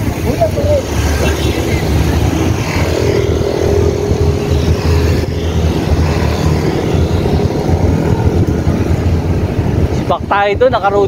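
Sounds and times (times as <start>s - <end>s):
low rumble: 0.0s - 10.6s
engine hum: 0.0s - 11.0s
road traffic: 0.0s - 11.0s.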